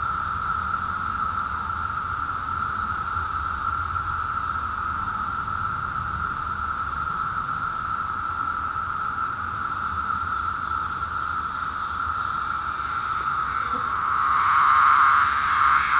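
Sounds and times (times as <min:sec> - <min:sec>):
cicadas droning: 0:00.0 - 0:15.9
high-pitched hiss: 0:00.0 - 0:15.9.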